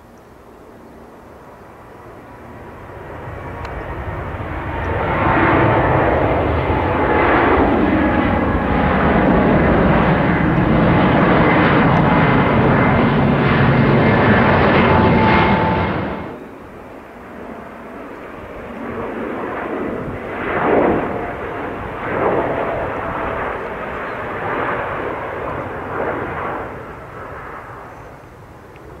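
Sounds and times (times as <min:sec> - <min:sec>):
jet engine roar with whine: 0:00.0 - 0:29.0.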